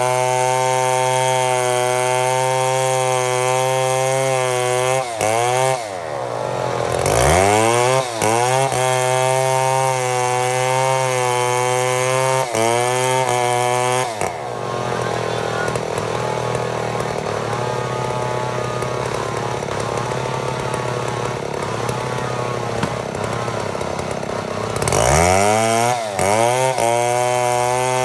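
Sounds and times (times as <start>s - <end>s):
chainsaw cutting log: 0.0s - 28.0s.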